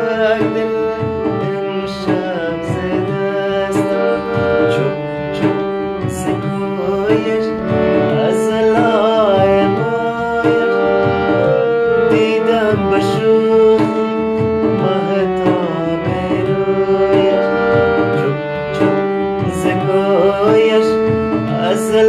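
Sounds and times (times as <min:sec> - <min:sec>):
man singing melodic line: 0:00.0 - 0:22.0
tabla beat: 0:00.0 - 0:22.0
sustained accompanying tones: 0:00.4 - 0:22.0.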